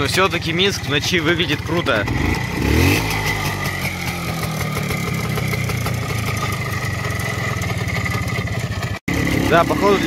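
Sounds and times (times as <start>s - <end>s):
motorcycle engine idling: 0.0s - 10.0s
motorcycle engine revving: 0.0s - 10.0s.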